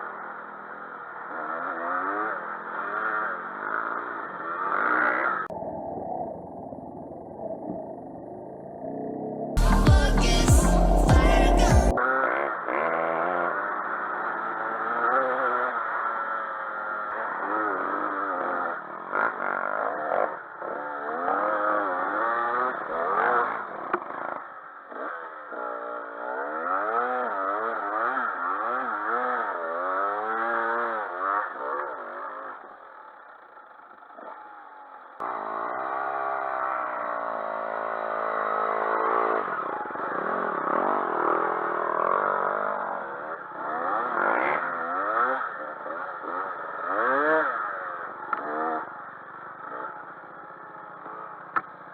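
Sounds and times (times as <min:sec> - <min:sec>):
dirt bike engines revving: 0:00.0 - 0:05.5, 0:09.6 - 0:51.9.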